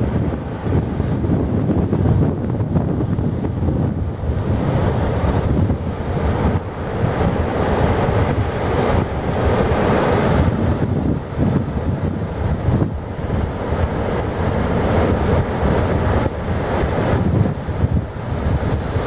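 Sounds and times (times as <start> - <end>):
surf breaking on beach: 0.0 - 19.0
wind buffeting microphone: 0.0 - 19.0.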